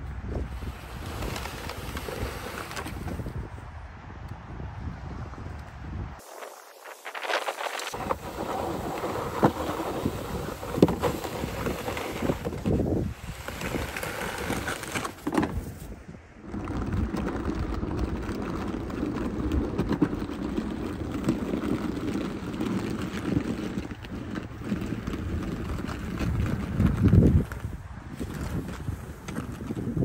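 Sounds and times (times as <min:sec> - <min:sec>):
snow blade scraping pavement: 0:00.0 - 0:03.6, 0:06.2 - 0:30.0
wheels rolling: 0:00.0 - 0:03.7, 0:05.2 - 0:30.0.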